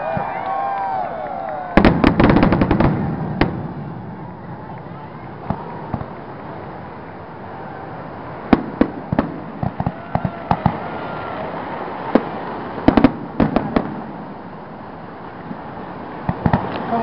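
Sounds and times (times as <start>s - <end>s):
fireworks bangs: 0.0s - 14.5s, 15.4s - 17.0s.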